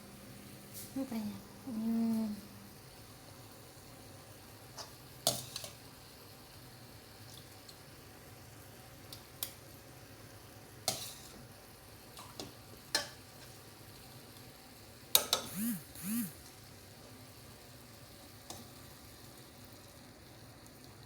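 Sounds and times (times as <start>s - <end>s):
chicken frying in a pan: 1.9s - 15.5s, 16.4s - 21.0s.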